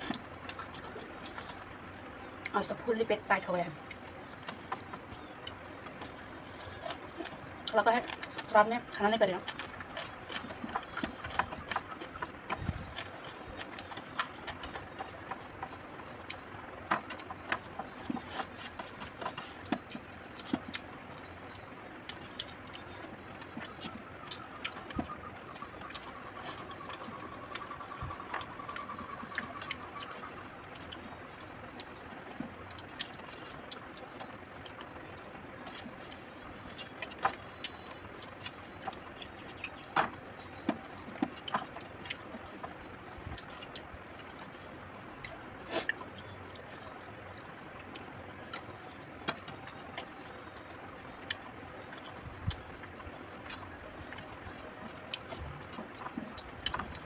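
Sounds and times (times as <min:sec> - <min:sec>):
wet chewing smacks: 0:00.0 - 0:02.8, 0:03.8 - 0:57.0.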